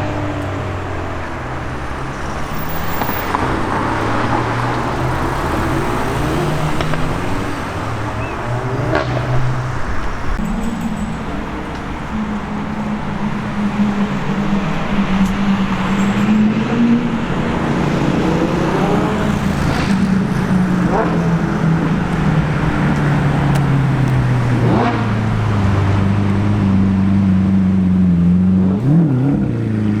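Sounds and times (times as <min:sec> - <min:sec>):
car engine droning at low revs: 0:00.0 - 0:30.0.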